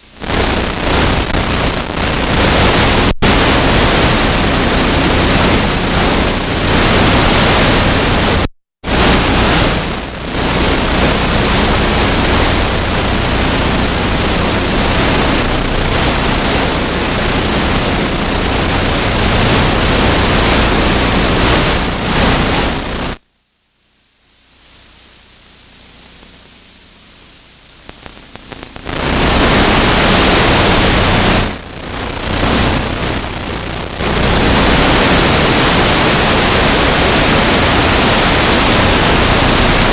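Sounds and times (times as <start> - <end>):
loud static-like hiss: 0.0 - 39.9.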